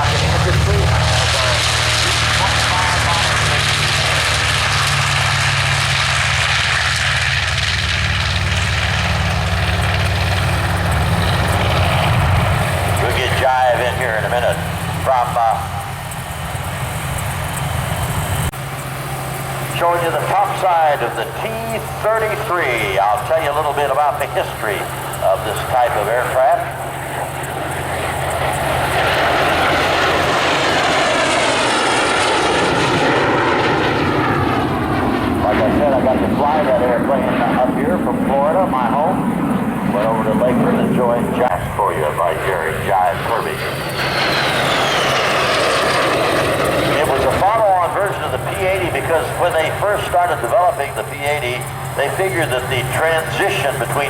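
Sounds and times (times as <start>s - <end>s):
jet engine rushing roar: 0.0s - 54.0s.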